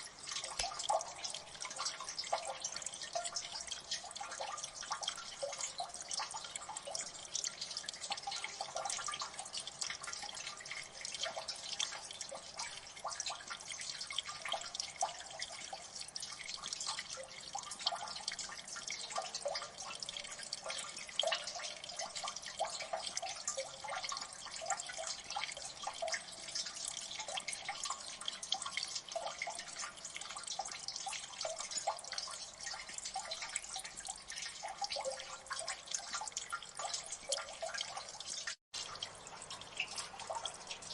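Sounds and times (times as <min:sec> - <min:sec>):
water dripping: 0:00.0 - 0:40.9.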